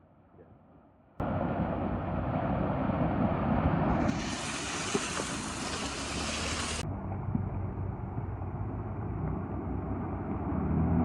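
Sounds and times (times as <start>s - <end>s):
vehicle running rushing noise: 1.2s - 11.0s.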